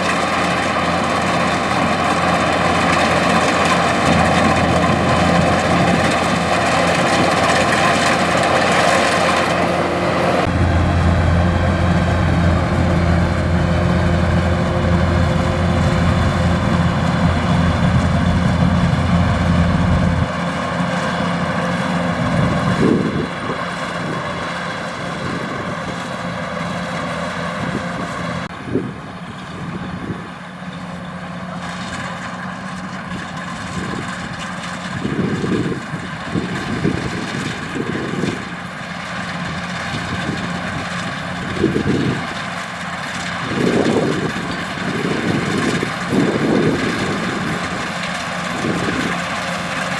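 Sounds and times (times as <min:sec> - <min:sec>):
combine harvester engine droning: 0:00.0 - 0:49.9.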